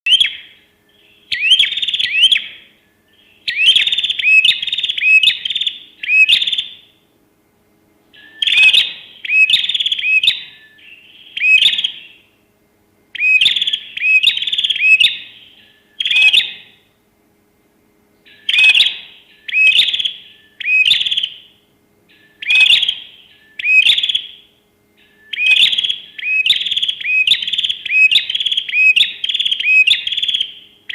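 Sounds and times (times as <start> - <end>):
songbird whistling: 0.1 - 7.0, 8.1 - 12.3, 13.1 - 16.8, 18.2 - 30.9.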